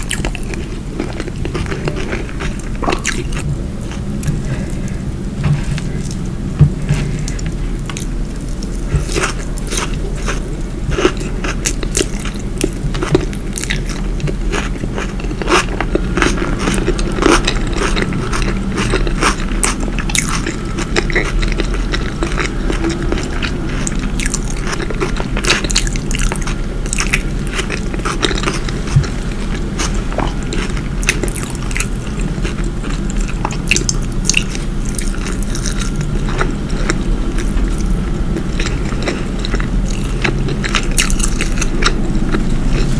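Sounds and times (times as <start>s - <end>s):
low hum: 0.0s - 42.9s
person chewing and crunching food: 0.0s - 42.9s.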